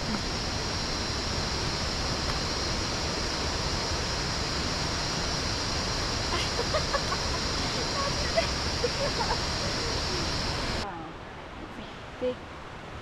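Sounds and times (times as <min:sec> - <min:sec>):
high-pitched hiss: 0:00.0 - 0:10.8
rushing water: 0:00.0 - 0:10.9.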